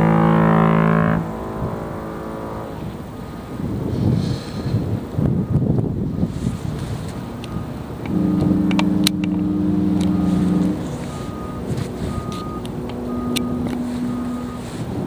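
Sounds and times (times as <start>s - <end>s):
ship horn blasts: 0.0s - 15.0s.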